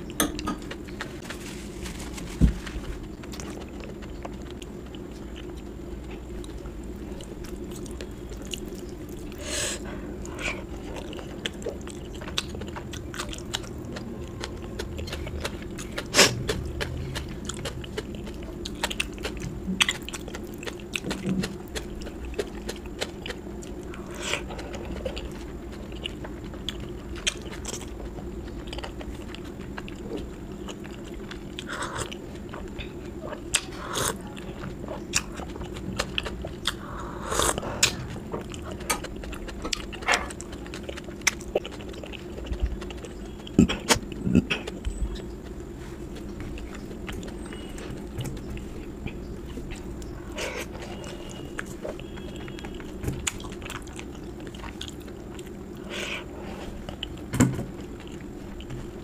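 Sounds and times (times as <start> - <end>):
low hum: 0.0 - 59.0
person chewing crunchy food: 0.0 - 59.0.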